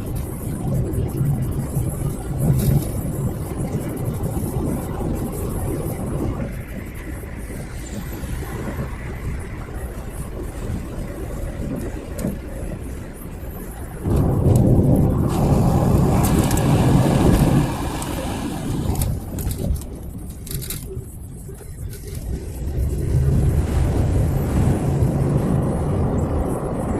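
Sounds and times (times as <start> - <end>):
car road and engine rumble: 0.0 - 26.9.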